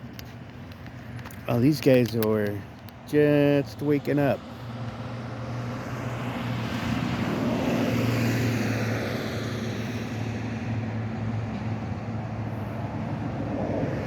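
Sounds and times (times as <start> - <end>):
passing engine: 0.1 - 14.0.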